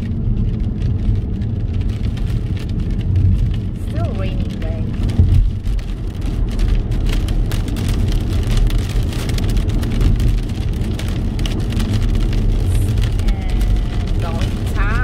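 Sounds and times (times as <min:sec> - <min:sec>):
rain ticking on windshield: 0:00.0 - 0:15.0
tyres and engine rumble: 0:00.0 - 0:15.0.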